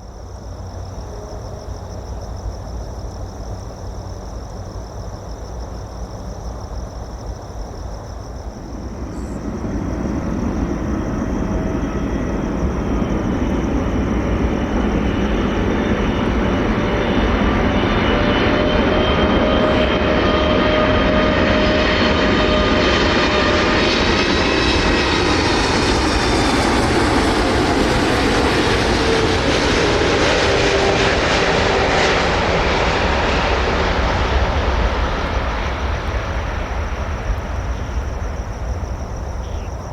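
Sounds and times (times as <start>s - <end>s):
faint high pulsing chirr: 0.0s - 39.9s
distant jet rumble: 7.6s - 39.9s
jet engines whining on approach: 7.8s - 39.9s.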